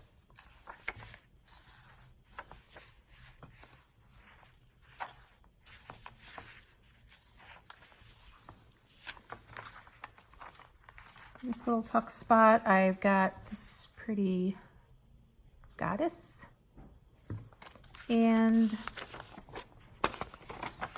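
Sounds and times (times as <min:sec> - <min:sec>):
paper pages rustling: 0:00.0 - 0:13.7, 0:17.2 - 0:20.9.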